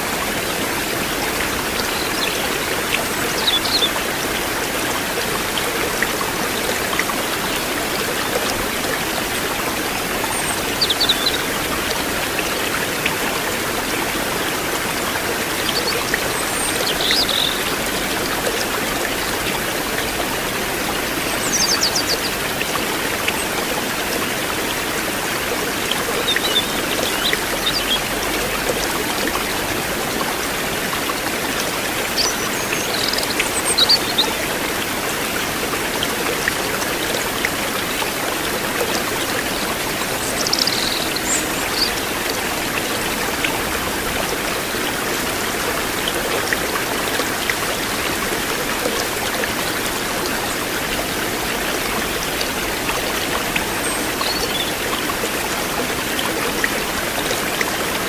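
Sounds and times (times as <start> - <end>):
river water rushing over stones: 0.0 - 58.0.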